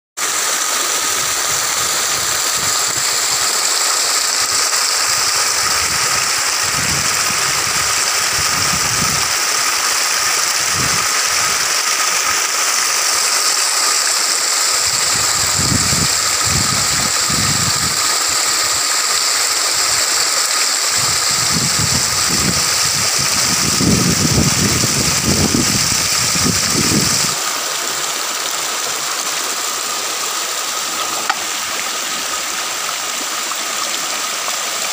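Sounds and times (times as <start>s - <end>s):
water rushing over waterfall: 0.2s - 34.9s.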